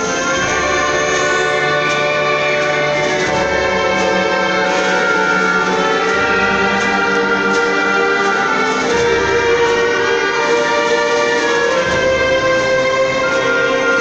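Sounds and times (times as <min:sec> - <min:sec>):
brass: 0:00.0 - 0:14.0
orchestra playing sustained chords: 0:00.0 - 0:14.0.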